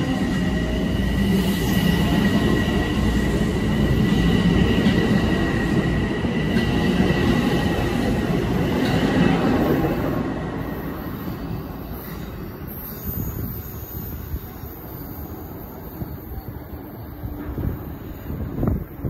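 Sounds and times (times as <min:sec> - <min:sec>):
high train whine: 0:00.0 - 0:19.0
train wheels rumbling on rail: 0:00.0 - 0:19.0.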